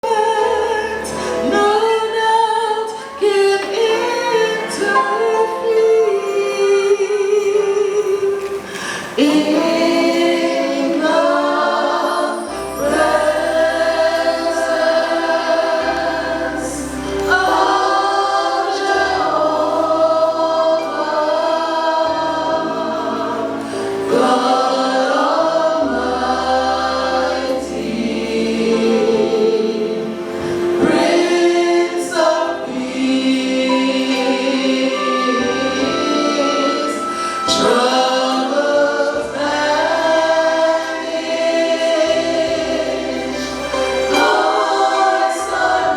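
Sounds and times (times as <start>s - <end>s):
choir singing a hymn: 0.0s - 45.9s.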